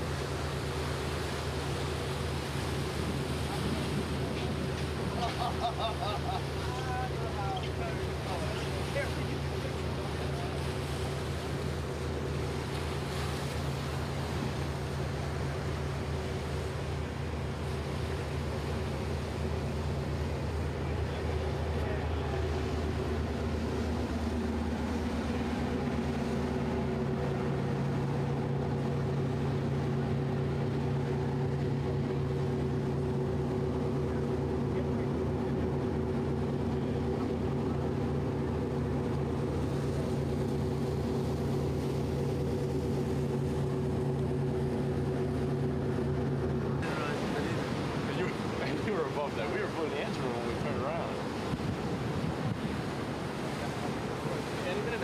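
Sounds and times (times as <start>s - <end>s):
boat engines droning: 0.0s - 55.0s
wind and water rushing: 0.0s - 55.0s.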